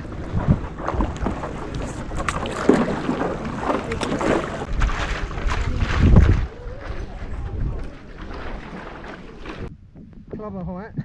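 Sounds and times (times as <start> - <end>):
paddle splashing in water: 0.0 - 9.7
wind buffeting microphone: 0.0 - 11.0.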